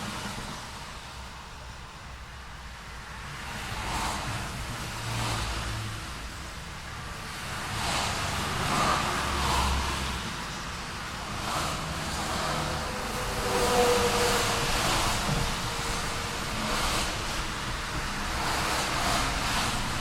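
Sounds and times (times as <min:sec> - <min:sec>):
cars passing: 0:00.0 - 0:20.0
low traffic rumble: 0:00.0 - 0:20.0.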